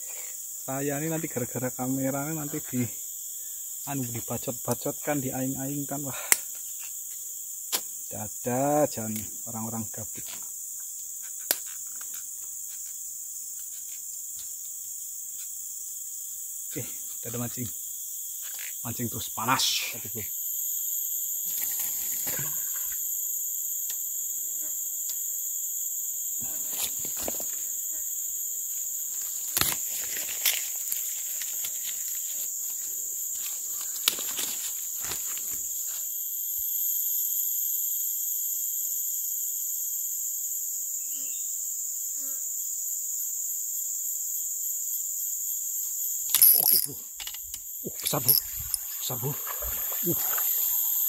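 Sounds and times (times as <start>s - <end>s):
insects humming shrilly: 0.0s - 51.0s.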